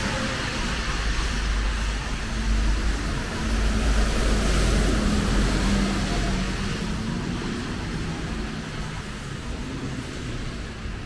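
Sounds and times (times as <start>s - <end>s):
rain hissing on wet road: 0.0s - 11.0s.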